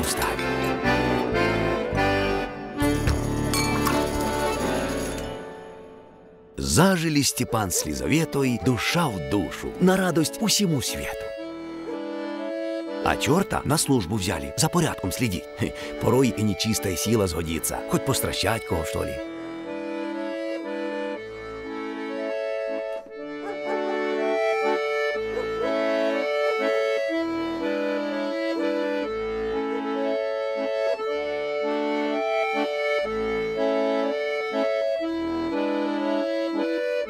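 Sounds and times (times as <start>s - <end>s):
accordion folk tune: 0.0s - 37.0s.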